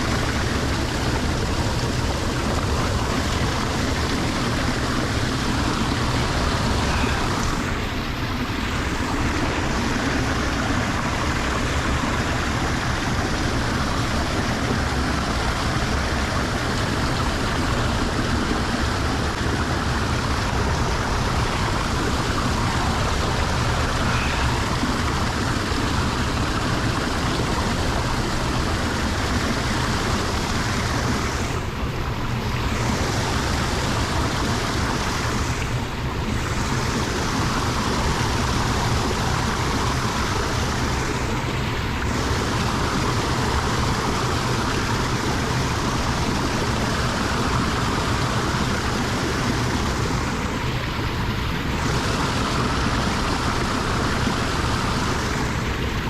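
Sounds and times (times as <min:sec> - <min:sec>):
water rushing into a drain: 0:00.0 - 0:56.0.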